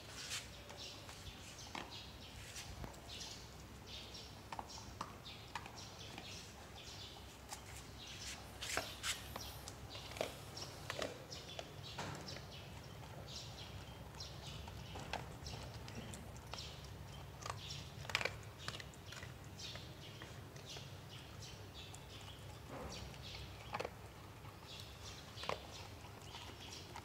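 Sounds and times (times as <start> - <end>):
dog crunching food: 2.8 - 27.0.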